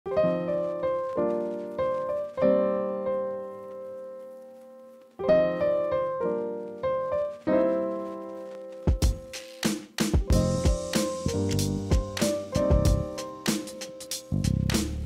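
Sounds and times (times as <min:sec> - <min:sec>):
piano chords: 0:00.1 - 0:14.8.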